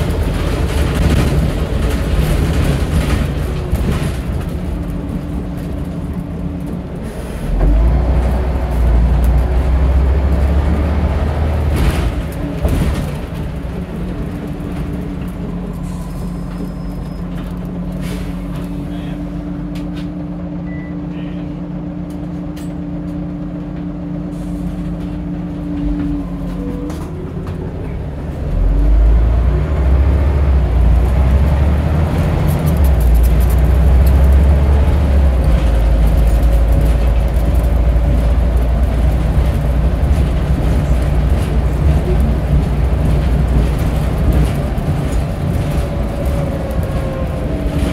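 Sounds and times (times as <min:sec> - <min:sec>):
diesel bus engine rumbling: 0:00.0 - 0:47.9.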